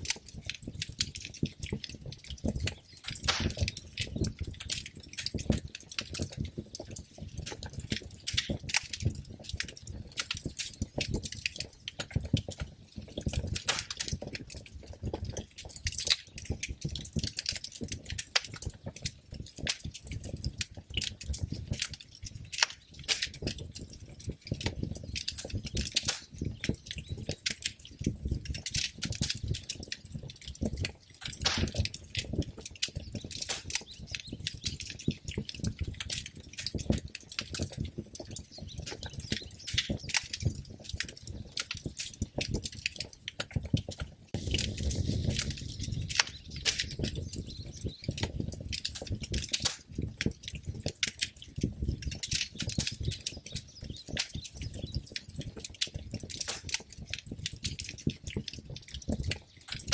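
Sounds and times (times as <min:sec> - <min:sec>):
fire crackling and popping: 0:00.0 - 0:59.9
low rumble of burning: 0:00.0 - 0:59.9.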